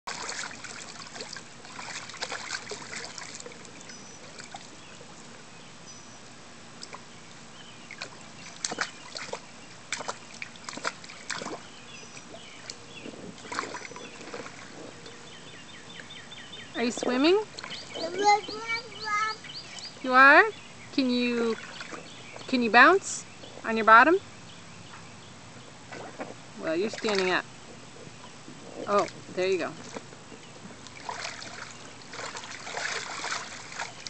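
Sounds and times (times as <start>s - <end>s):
water splashing in a small pool: 0.0s - 5.6s, 6.3s - 15.4s, 16.9s - 20.4s, 21.1s - 22.4s, 25.8s - 34.0s.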